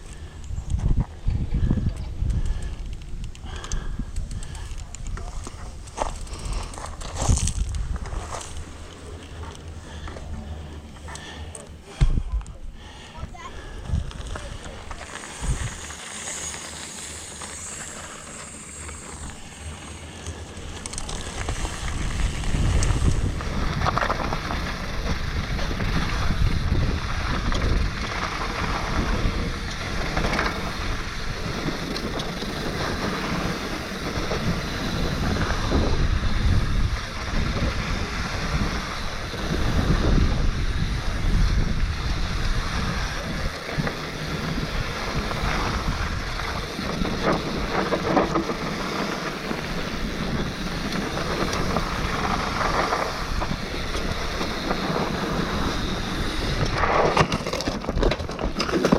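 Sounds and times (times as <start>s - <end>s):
wind on microphone: 0.0s - 8.4s, 13.3s - 16.0s, 21.2s - 58.7s
bike tyres rumbling on dirt: 0.0s - 58.9s.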